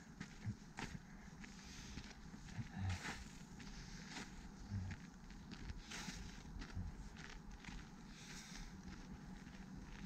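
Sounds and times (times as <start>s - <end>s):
footsteps on snow: 0.0s - 10.0s.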